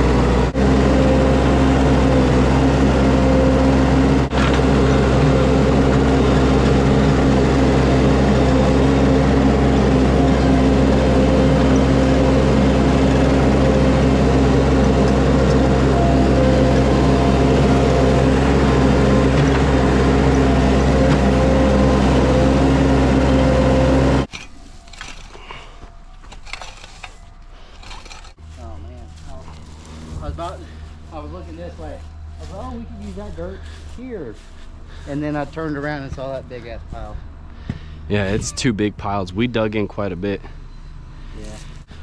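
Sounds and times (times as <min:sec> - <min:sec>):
skid steer engine running: 0:00.0 - 0:24.3, 0:27.8 - 0:42.0.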